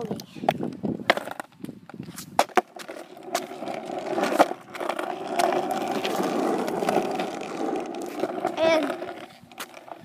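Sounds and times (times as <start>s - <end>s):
skateboard wheels rolling on asphalt: 0.1s - 10.0s.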